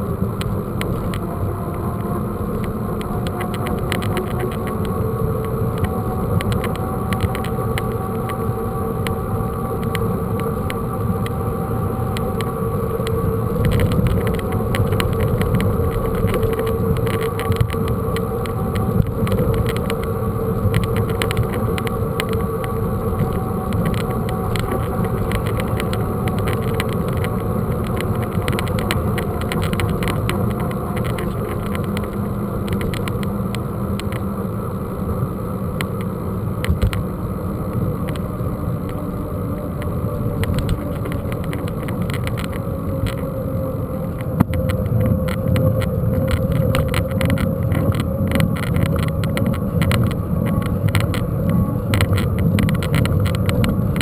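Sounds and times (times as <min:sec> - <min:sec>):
fine rattling of bike: 0:00.0 - 0:54.0
wind: 0:00.0 - 0:54.0.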